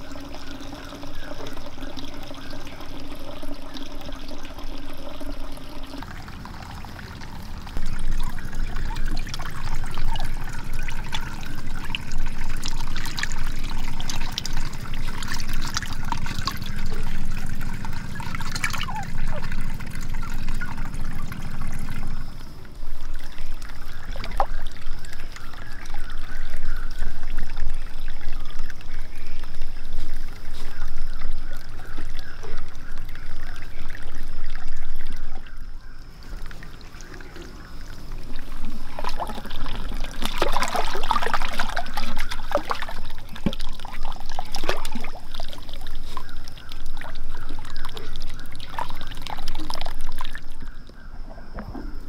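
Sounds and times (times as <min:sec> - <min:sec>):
water splashing into a pond: 0:00.0 - 0:52.0.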